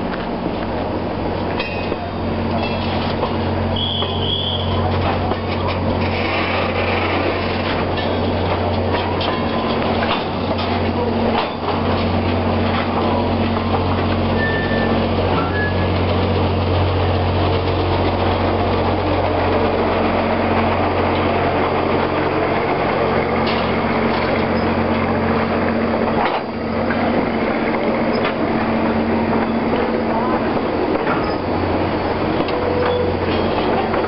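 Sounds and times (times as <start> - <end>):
low engine drone: 0.0 - 34.0
train cars rumbling over track: 0.0 - 34.0.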